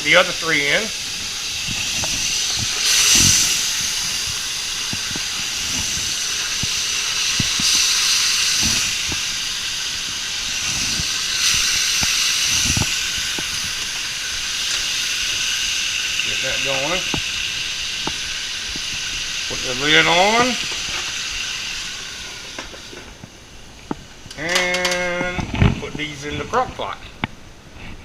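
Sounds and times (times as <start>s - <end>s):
chicken sizzling in frying pan: 0.0s - 26.7s.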